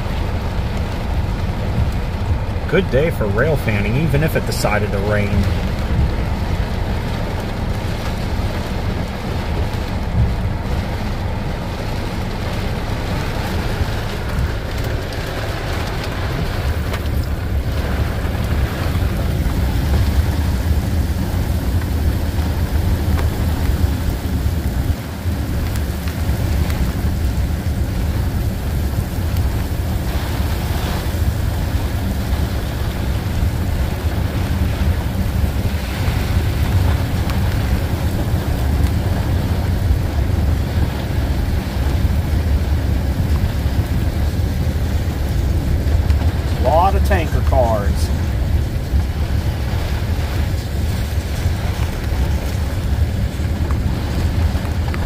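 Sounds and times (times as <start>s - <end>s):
freight train rumbling: 0.0s - 55.0s
heavy rain pouring: 0.0s - 55.0s.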